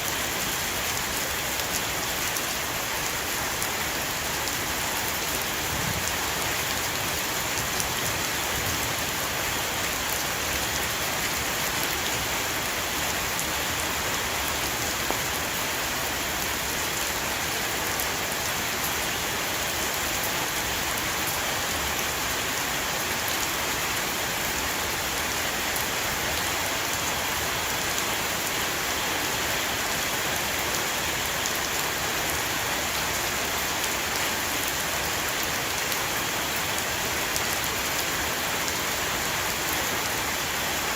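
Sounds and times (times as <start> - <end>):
heavy rain drumming on roof: 0.0 - 40.9.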